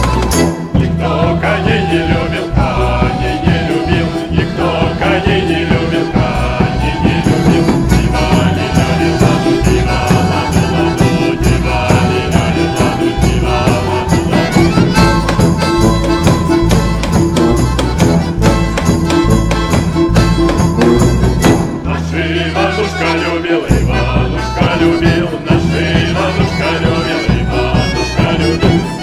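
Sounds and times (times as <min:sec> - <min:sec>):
chorus singing: 0:00.0 - 0:29.0
folk ensemble playing: 0:00.0 - 0:29.0.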